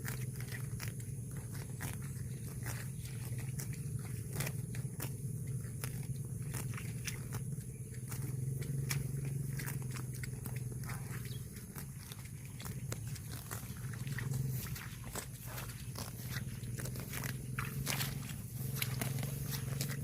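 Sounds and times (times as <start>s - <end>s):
cow chewing grass: 0.0s - 20.0s
low hum: 0.1s - 20.0s.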